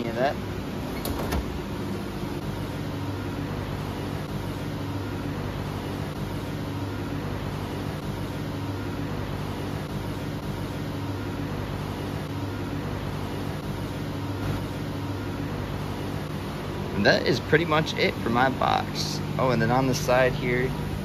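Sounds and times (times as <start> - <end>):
low machine hum with hiss: 0.0 - 21.0.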